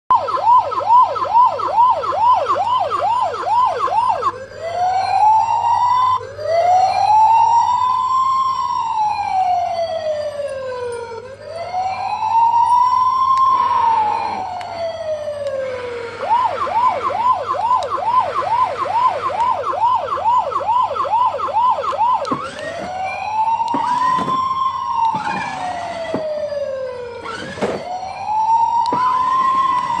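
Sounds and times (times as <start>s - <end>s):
electronic police siren: 0.1s - 30.0s.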